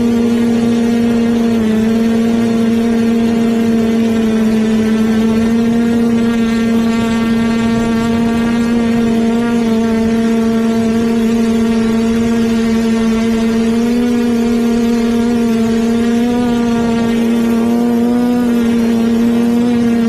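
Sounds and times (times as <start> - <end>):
quadcopter buzzing drone: 0.0 - 20.0.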